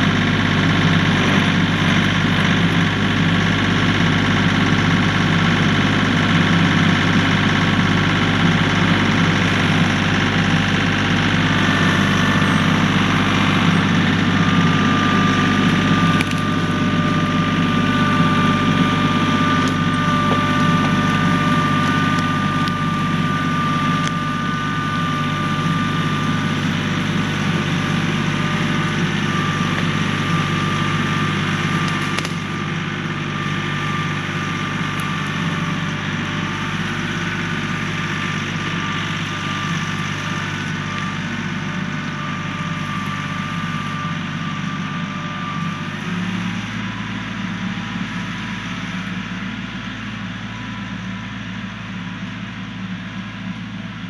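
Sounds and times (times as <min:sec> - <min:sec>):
tractor diesel engine under load: 0:00.0 - 0:54.0
high whine: 0:08.1 - 0:52.4.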